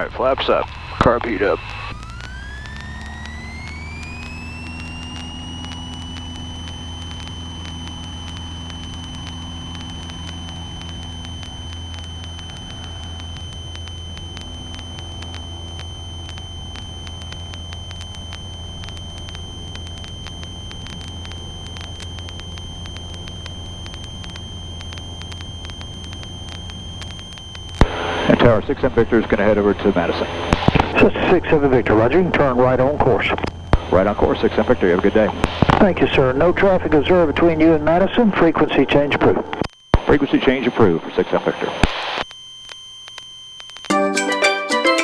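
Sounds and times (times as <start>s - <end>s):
light aircraft engine drone: 0.0s - 41.8s
high-pitched whine: 0.0s - 44.0s.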